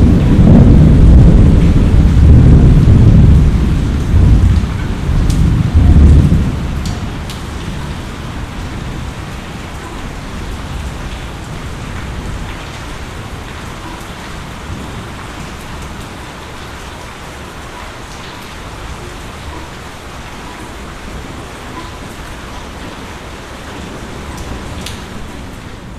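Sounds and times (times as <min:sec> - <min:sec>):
low thunder rumble: 0:00.0 - 0:25.9
steady rain falling: 0:00.0 - 0:25.9.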